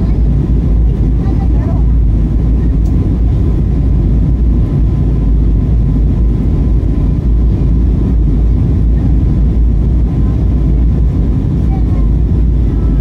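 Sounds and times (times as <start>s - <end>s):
faint steady whine: 0.0s - 13.0s
jet cabin roar: 0.0s - 13.0s.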